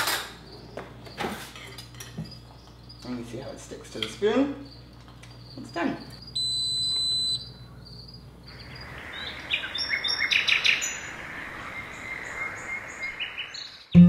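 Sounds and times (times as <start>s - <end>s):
birds chirping: 2.4s - 14.0s.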